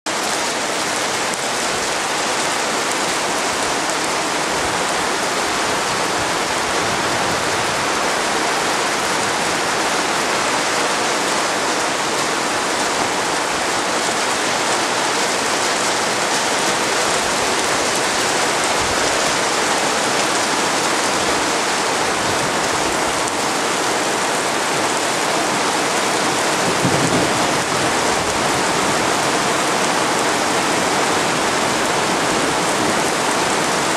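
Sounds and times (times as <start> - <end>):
hail and heavy rain falling: 0.1 - 33.9.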